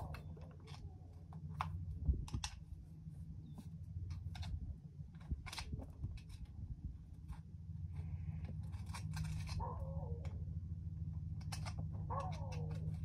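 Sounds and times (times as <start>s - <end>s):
hoof pick scratching and scraping: 0.0s - 13.0s
low steady rumble: 0.0s - 13.0s.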